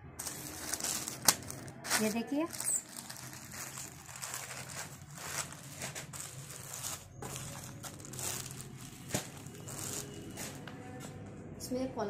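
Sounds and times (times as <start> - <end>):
plastic bags crinkling: 0.2 - 10.7.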